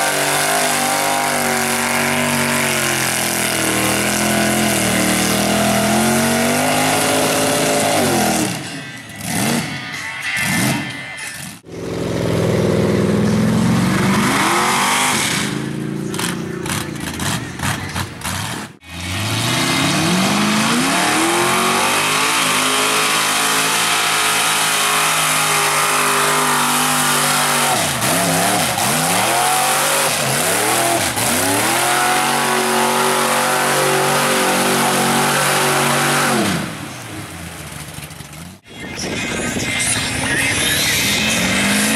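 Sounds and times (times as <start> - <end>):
truck engine revving hard: 0.0 - 38.6, 40.3 - 41.9.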